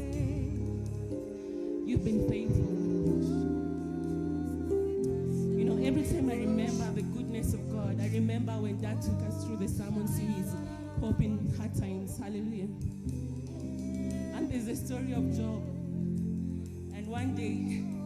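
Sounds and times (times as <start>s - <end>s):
low bass line: 0.0s - 18.0s
person singing: 0.0s - 18.0s.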